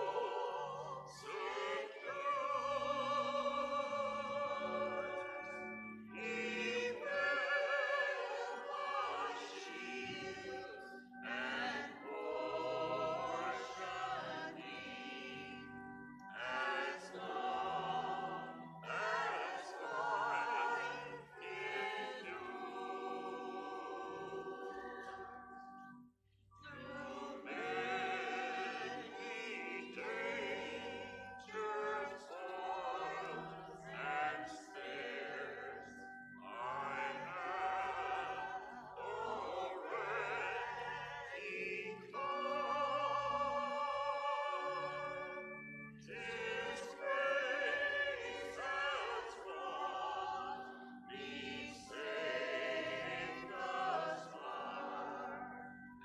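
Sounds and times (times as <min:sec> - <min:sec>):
hymn sung with vibrato: 0:00.0 - 0:25.9, 0:26.6 - 0:56.0.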